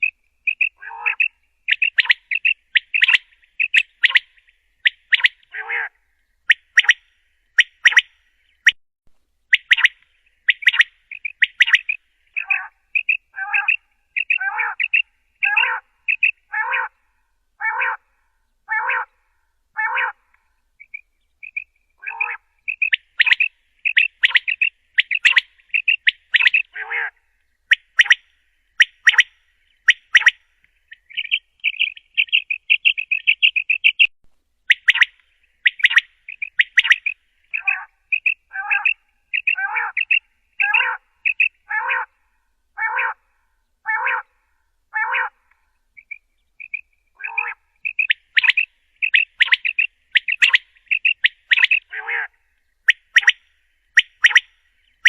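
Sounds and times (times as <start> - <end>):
quail calling: 0.0 - 8.8, 9.5 - 17.0, 17.6 - 18.1, 18.7 - 19.2, 19.8 - 20.2, 20.8 - 34.1, 34.7 - 42.2, 42.8 - 43.2, 43.8 - 44.3, 44.9 - 45.4, 46.0 - 53.4, 54.0 - 54.6.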